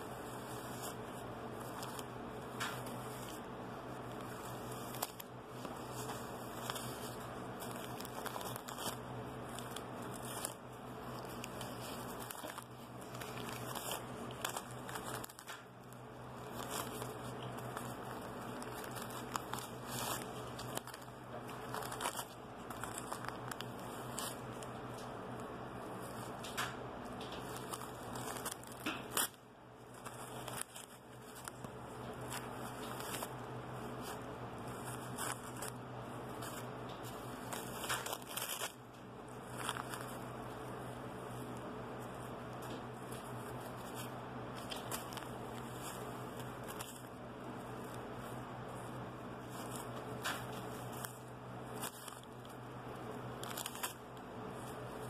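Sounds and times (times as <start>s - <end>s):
newspaper crinkling and tearing: 0.2s - 55.0s.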